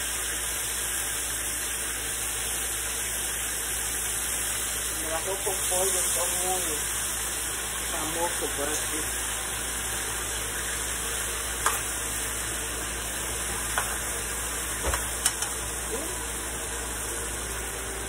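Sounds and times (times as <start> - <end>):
chicken sizzling in a frying pan: 0.0 - 18.0.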